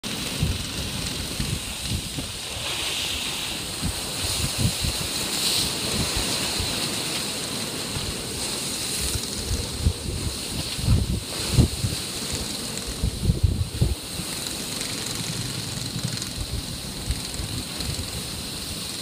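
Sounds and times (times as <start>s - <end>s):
sea water rushing along hull: 0.0s - 19.0s
wind buffeting microphone: 0.0s - 19.0s.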